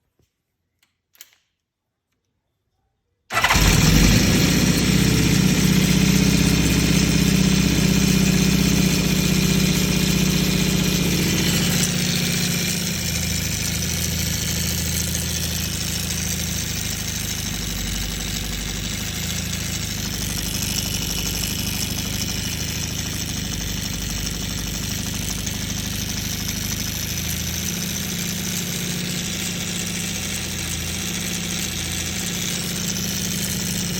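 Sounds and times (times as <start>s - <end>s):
engine rattle: 3.3s - 33.9s
motorcycle engine starting and idling: 3.3s - 33.9s.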